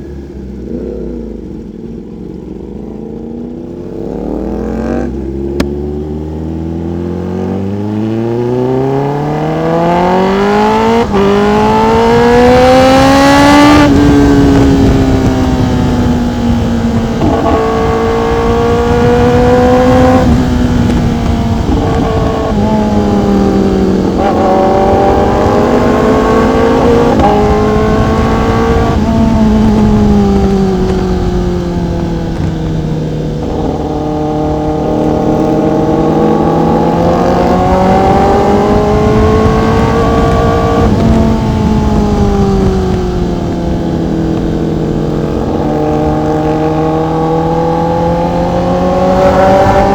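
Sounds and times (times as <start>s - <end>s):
motorcycle engine accelerating: 0.0s - 49.9s
wind and road noise: 0.0s - 49.9s.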